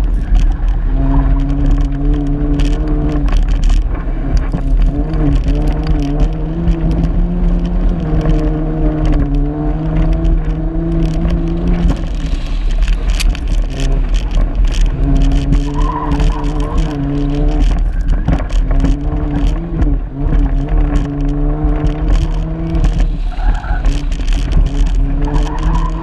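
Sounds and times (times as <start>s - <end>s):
car engine driven hard: 0.0s - 26.0s
wind rumble: 0.0s - 26.0s.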